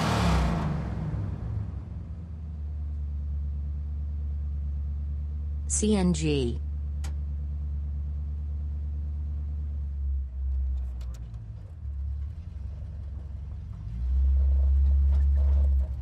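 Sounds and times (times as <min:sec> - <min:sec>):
auto-rickshaw engine rumble: 0:00.0 - 0:05.8, 0:06.6 - 0:16.0.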